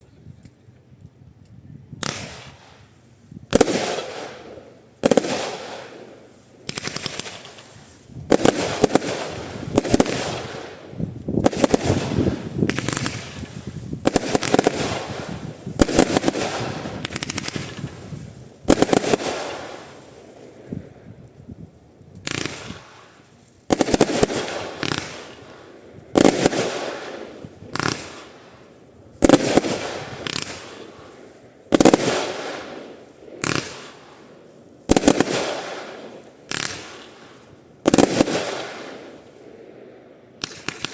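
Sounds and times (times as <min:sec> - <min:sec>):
firework bangs: 0:02.0 - 0:02.8, 0:03.5 - 0:21.0, 0:22.2 - 0:39.4, 0:40.3 - 0:40.9
firework crackling: 0:02.0 - 0:39.4, 0:40.3 - 0:40.9.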